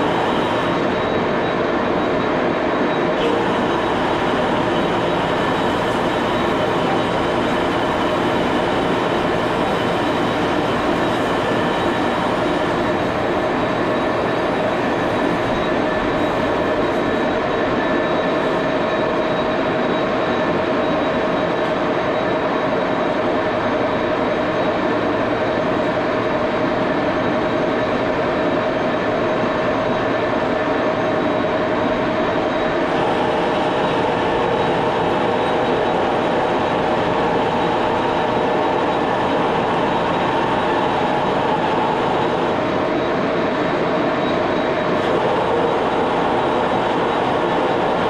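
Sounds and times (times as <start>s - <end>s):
lathe humming and whining: 0.0s - 48.0s.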